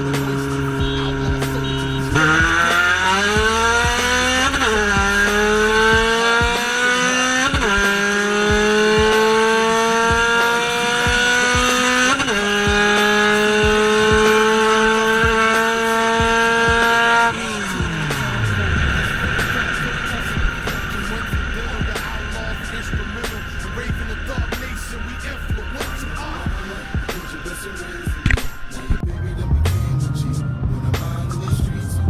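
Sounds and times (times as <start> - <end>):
car engine accelerating: 0.0 - 32.0
gear upshifts: 0.0 - 32.0.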